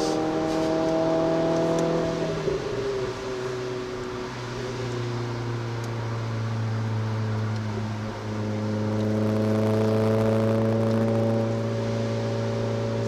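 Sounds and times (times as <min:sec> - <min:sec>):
car engine accelerating: 0:00.0 - 0:13.0
road and tyre noise: 0:00.0 - 0:13.0.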